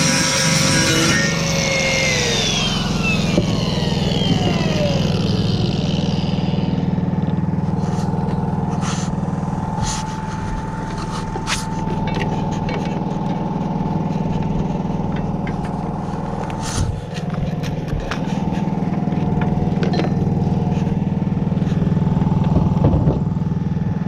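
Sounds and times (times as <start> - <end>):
engine idling: 0.3 - 24.0.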